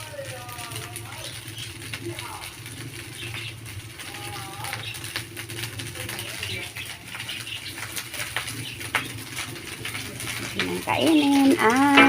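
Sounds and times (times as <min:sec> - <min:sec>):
rice sizzling in a frying pan: 0:00.0 - 0:12.0.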